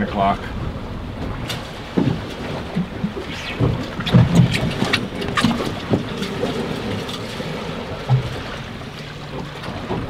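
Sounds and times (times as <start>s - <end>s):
waves slapping boat hull: 0.0s - 10.0s
wind buffeting microphone: 0.0s - 10.0s.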